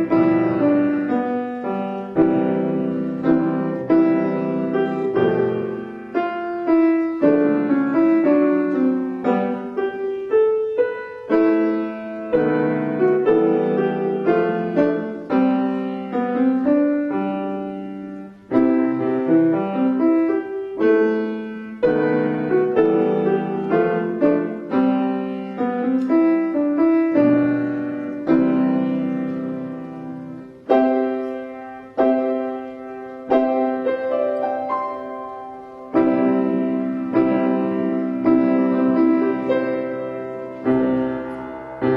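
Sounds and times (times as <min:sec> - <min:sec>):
solo piano playing: 0:00.0 - 0:41.9.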